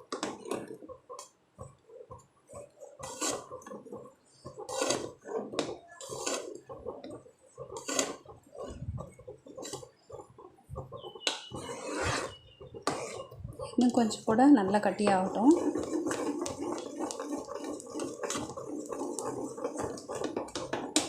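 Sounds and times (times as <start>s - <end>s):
utensil scraping a pot: 2.6s - 21.0s.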